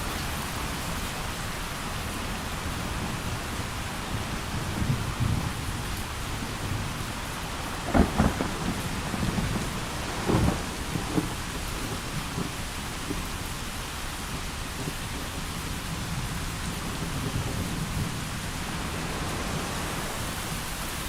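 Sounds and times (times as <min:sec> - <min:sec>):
heavy rain: 0:00.0 - 0:21.0
thunder rumbling and crackling: 0:00.0 - 0:21.0.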